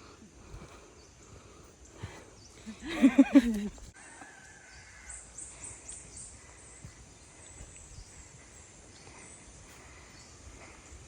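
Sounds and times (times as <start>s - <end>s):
faint outdoor ambience: 0.0s - 11.0s.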